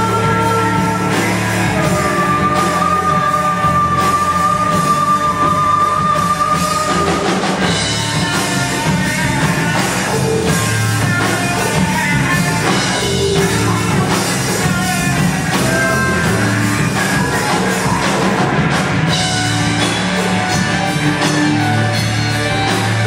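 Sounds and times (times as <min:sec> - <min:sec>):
electric guitar: 0:00.0 - 0:23.0
live rock band playing: 0:00.0 - 0:23.0.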